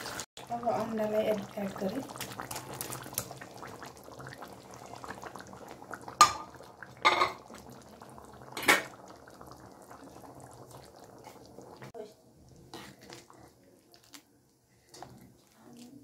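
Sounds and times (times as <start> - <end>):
curry simmering and bubbling: 0.0 - 16.0.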